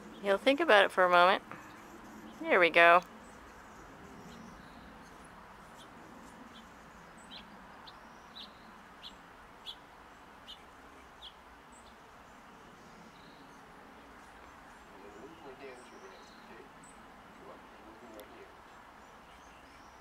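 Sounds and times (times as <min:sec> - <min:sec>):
faint background hiss: 0:00.0 - 0:20.0.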